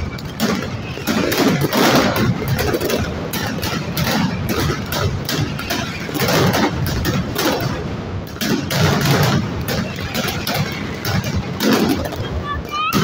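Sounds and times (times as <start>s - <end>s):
firecracker barrage: 0.0s - 13.0s.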